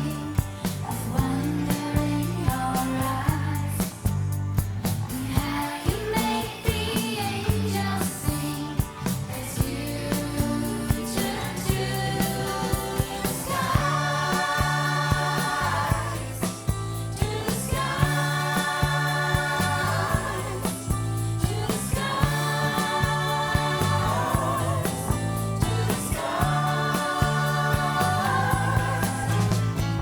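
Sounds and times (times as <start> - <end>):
song with vocals over a beat: 0.0 - 30.0.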